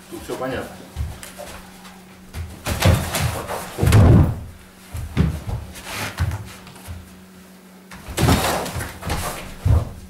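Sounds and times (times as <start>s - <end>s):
thuds of people grappling on mat: 0.9s - 7.1s, 7.9s - 10.0s.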